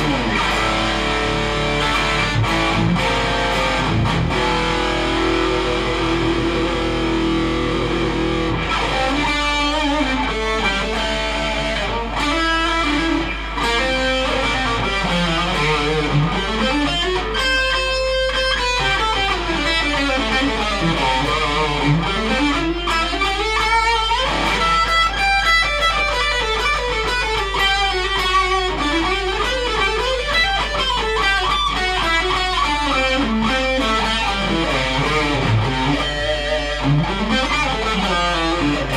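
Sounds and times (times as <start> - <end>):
high guitar squeal: 0.0 - 27.9, 28.6 - 38.9
electric guitar with tremolo dips: 0.0 - 38.9.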